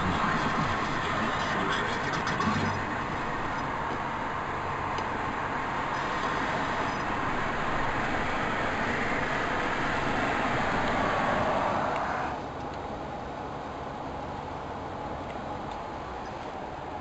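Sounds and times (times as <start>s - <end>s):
road and tyre noise in car: 0.0s - 17.0s.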